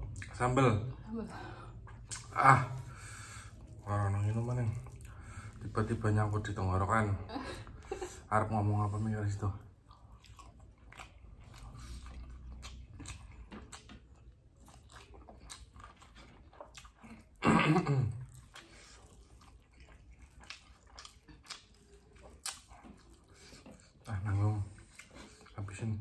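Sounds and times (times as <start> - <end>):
people chewing: 0.0 - 26.0.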